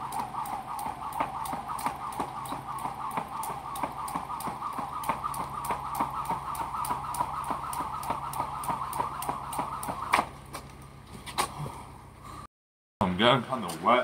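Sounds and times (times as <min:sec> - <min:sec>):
jump rope slapping ground: 0:00.0 - 0:11.6.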